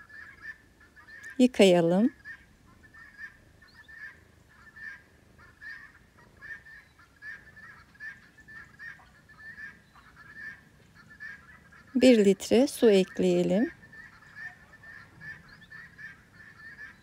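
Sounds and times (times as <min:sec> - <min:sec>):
faint poultry honking: 0:00.0 - 0:17.0.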